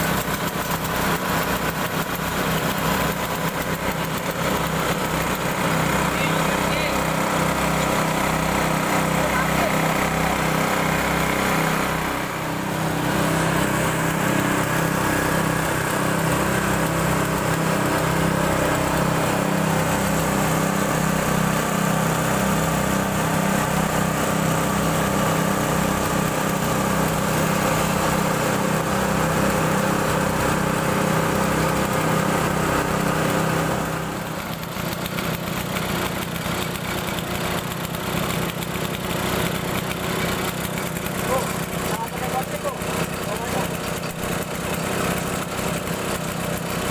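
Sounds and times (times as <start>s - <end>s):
small petrol engine running: 0.0s - 46.9s.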